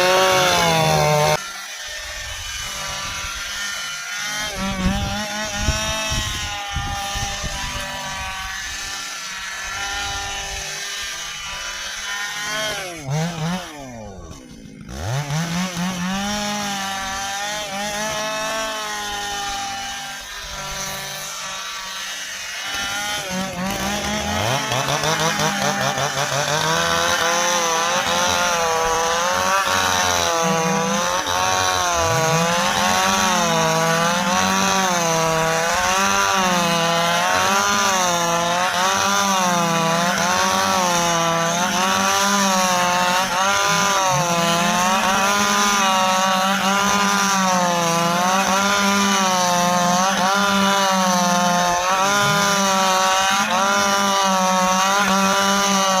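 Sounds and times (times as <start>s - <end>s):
chainsaw sawing through wood: 0.0s - 56.0s.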